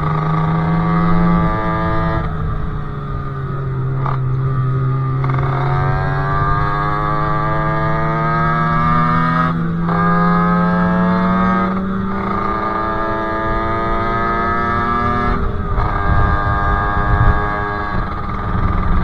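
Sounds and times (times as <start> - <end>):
two-stroke moped engine: 0.0 - 19.0.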